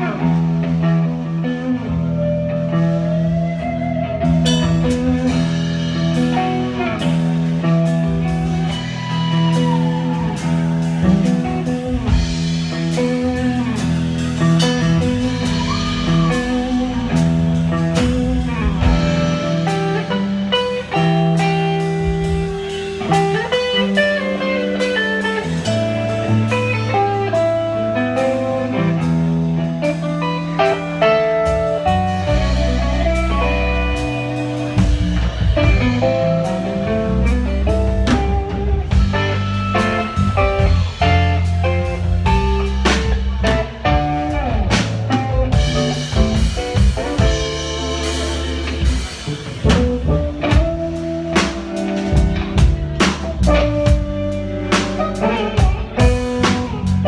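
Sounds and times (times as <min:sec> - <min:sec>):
bass notes: 0:00.0 - 0:57.0
drums and cymbals: 0:00.0 - 0:57.0
electric guitar bending notes: 0:00.0 - 0:57.0.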